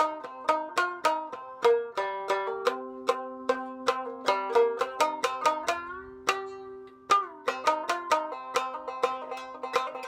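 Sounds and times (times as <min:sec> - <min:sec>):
shamisen plucked notes: 0:00.0 - 0:10.0.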